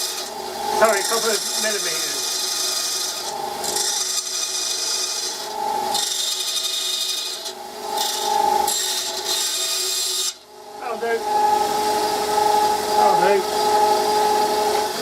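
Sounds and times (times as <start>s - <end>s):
bandsaw cutting wood: 0.0s - 15.0s
faint blade whine: 0.0s - 15.0s.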